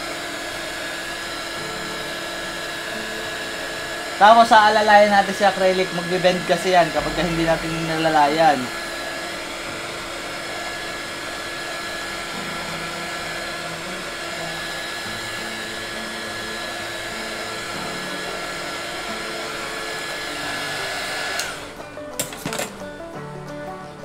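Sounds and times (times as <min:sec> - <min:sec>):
heat gun fan hiss and whine: 0:00.0 - 0:22.9.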